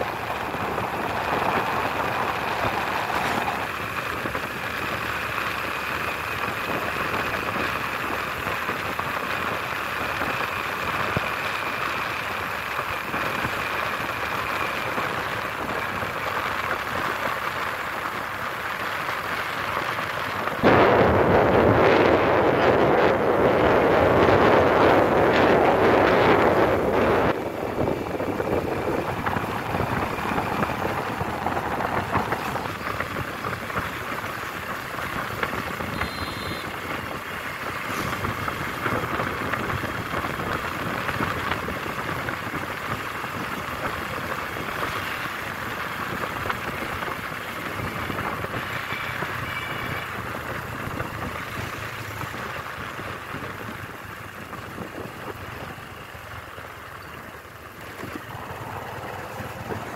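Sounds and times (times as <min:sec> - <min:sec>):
wind rushing over microphone: 0:00.0 - 0:11.4, 0:19.7 - 0:49.4, 0:50.0 - 0:56.0, 0:57.8 - 0:59.9
vehicle engine and road noise: 0:00.0 - 0:59.9.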